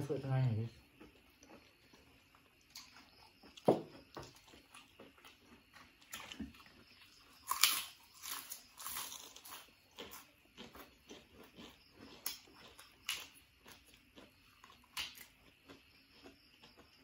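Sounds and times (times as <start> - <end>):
crunchy vegetable bite: 1.0 - 17.0.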